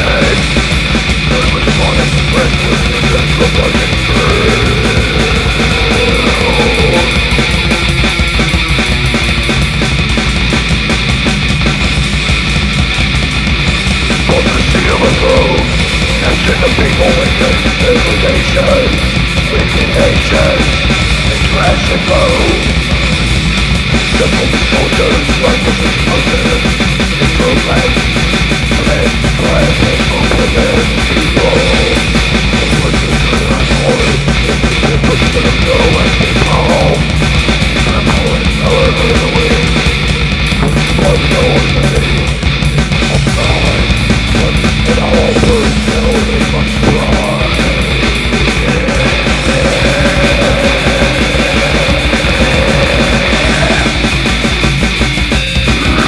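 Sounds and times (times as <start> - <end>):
heavily distorted guitars: 0.0 - 56.0
loud dense metal music: 0.0 - 56.0
rapid drumming: 0.0 - 56.0.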